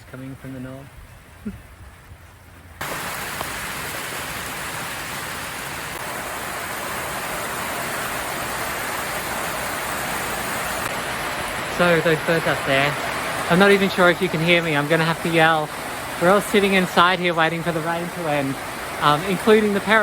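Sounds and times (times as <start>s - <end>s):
heavy rain: 2.5s - 20.0s.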